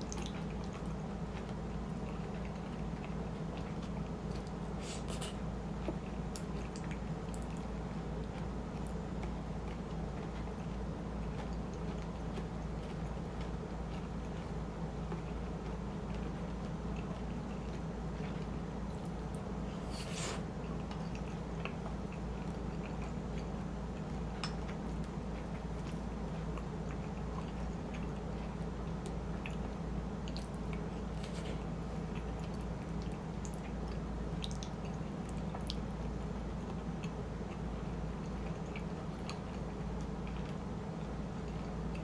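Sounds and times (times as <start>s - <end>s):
close chewing mouth sounds: 0.0s - 42.0s
steady low hum: 0.0s - 42.0s.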